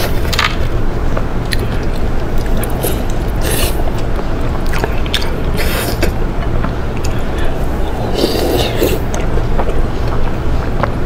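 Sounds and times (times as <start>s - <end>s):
steady low rumble: 0.0s - 11.0s
wet chewing squelches: 1.5s - 11.0s.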